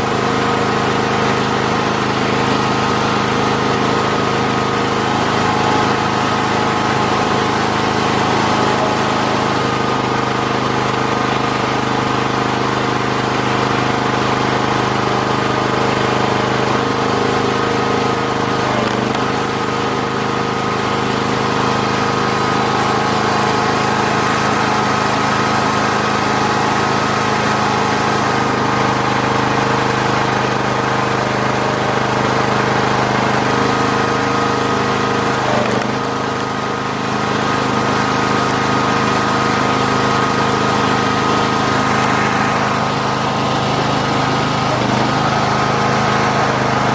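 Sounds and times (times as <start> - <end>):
log splitter engine running: 0.0 - 46.9.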